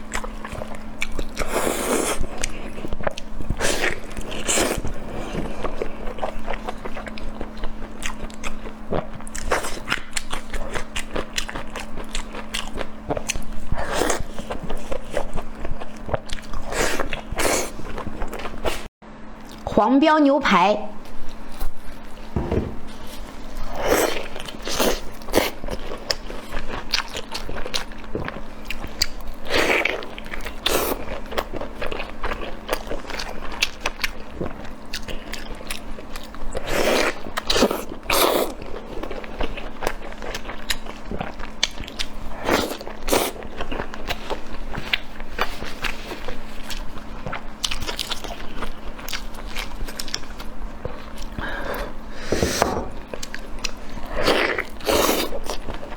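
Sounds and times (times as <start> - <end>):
person chewing crunchy food: 0.0 - 19.6, 21.0 - 55.9.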